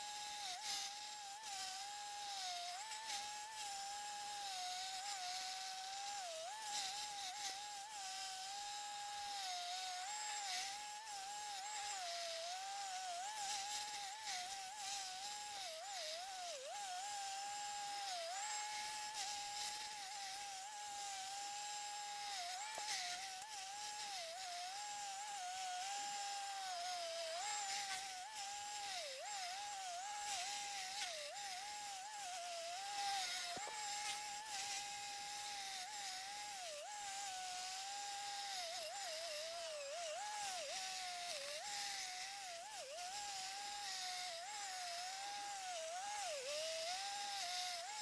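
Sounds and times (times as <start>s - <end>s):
stump grinder whining: 0.0s - 48.0s.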